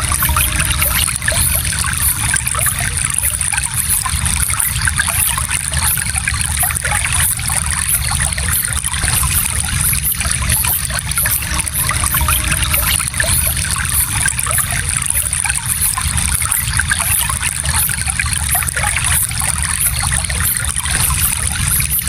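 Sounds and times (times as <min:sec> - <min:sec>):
stream trickling over stones: 0:00.0 - 0:22.0.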